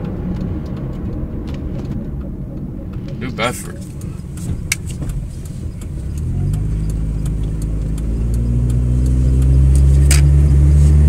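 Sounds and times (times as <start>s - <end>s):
car engine drone from inside cabin: 0.0s - 11.0s
light ticks: 0.0s - 11.0s.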